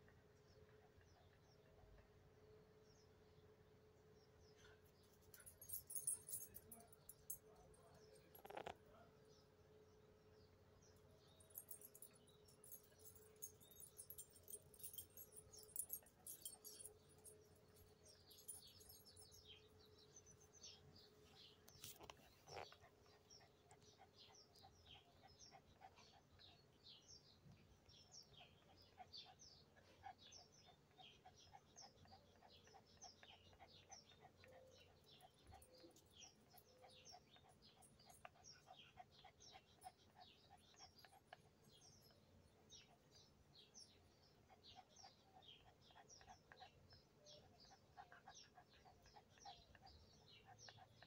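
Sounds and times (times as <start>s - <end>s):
small birds chirping: 4.1s - 51.0s.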